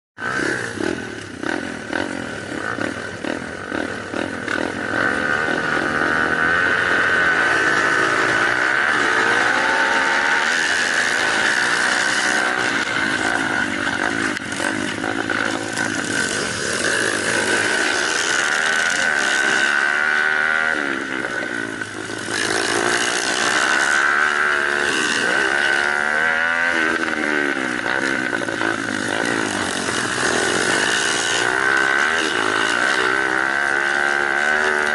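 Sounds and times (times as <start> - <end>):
motorcycle engines revving: 0.2 - 34.9.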